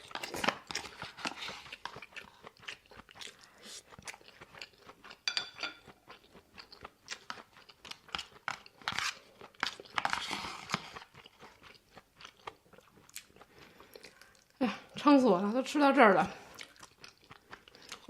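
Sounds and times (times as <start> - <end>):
person chewing crunchy food: 0.0 - 14.6, 16.4 - 18.0.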